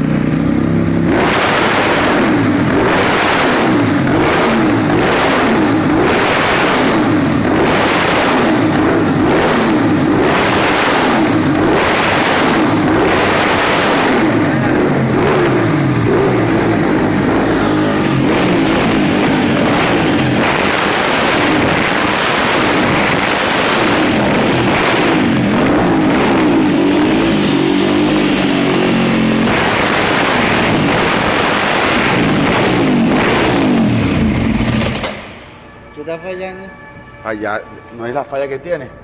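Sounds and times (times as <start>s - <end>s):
motorcycle engine revving: 0.0s - 35.7s.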